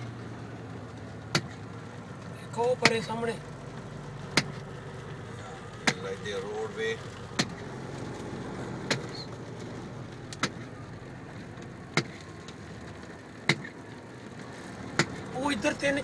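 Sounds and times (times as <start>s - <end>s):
car tyre noise on wet road: 0.0s - 16.0s.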